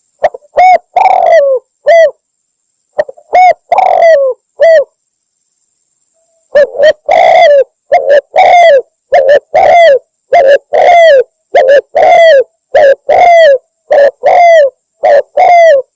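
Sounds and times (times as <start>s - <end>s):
dove cooing: 0.0s - 2.2s, 3.0s - 4.9s, 6.5s - 15.9s.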